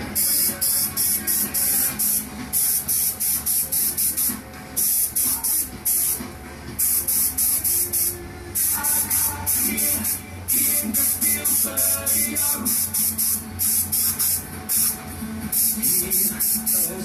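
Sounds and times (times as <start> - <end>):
pulsing hiss beat: 0.0 - 17.0.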